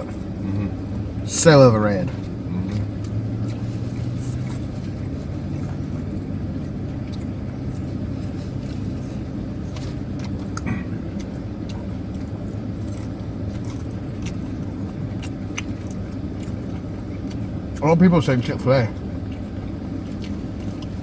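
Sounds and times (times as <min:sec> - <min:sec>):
person eating: 0:00.0 - 0:01.2, 0:02.1 - 0:17.8, 0:18.9 - 0:21.0
car idling: 0:00.0 - 0:21.0.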